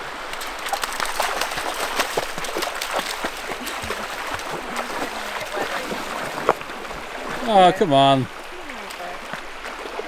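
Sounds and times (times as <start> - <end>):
stream water splashing over rocks: 0.0 - 10.0.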